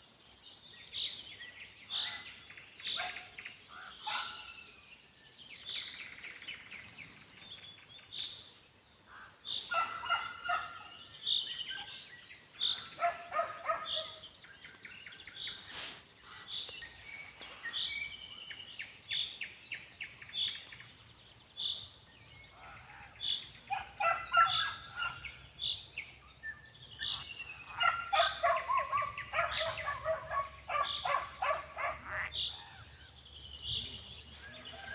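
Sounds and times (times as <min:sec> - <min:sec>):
birds chirping and calling: 0:00.0 - 0:34.9.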